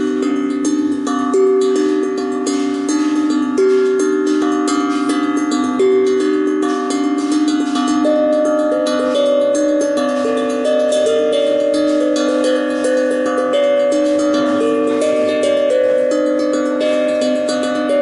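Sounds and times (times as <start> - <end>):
steel tongue drum notes: 0.0 - 18.0.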